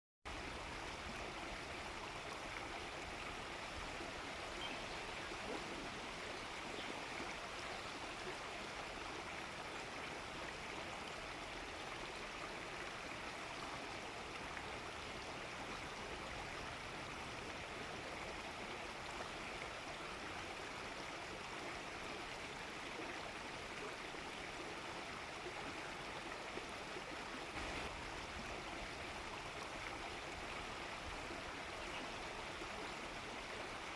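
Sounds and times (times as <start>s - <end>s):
stream rushing: 0.3s - 33.9s.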